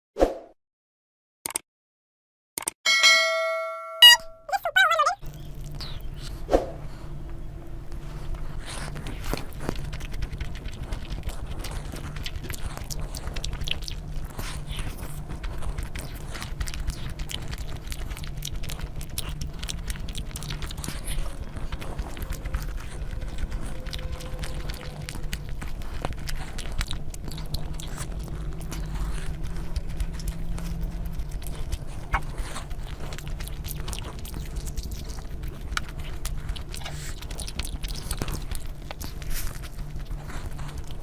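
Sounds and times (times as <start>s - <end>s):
steady low rumble: 5.2s - 41.0s
person biting and chewing food: 8.0s - 41.0s.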